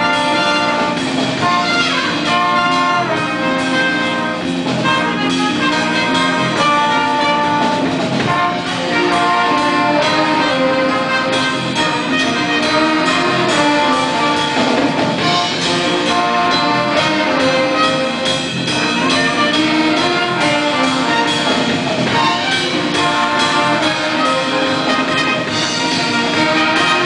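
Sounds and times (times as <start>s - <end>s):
jazz big band playing: 0.0s - 27.0s.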